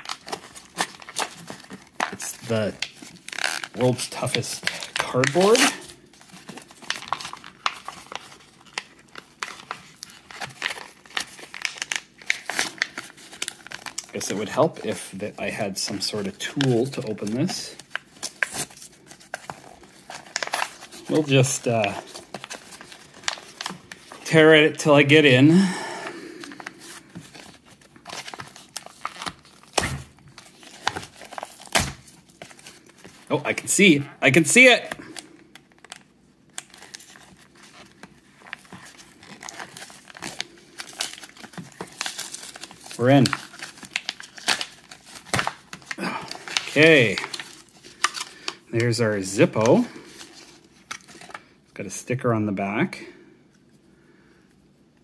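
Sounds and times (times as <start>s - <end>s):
cardboard package crinkling: 0.0s - 51.4s.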